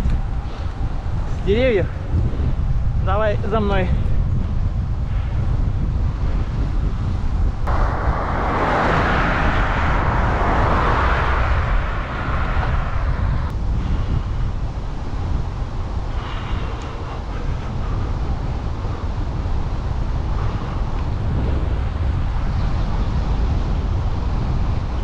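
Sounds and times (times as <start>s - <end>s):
wind buffeting microphone: 0.0s - 25.0s
bicycle tyre rolling hiss: 4.1s - 24.8s.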